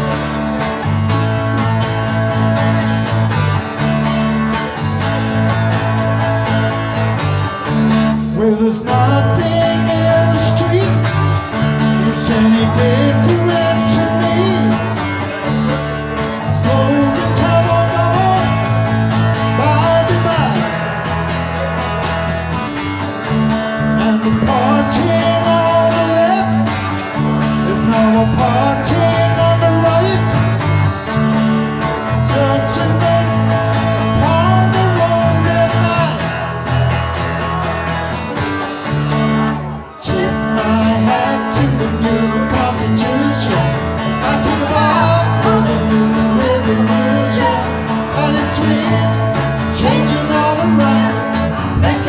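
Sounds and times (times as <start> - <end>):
electric bass: 0.0 - 52.0
strummed acoustic guitar: 0.0 - 52.0
tambourine: 0.0 - 52.0.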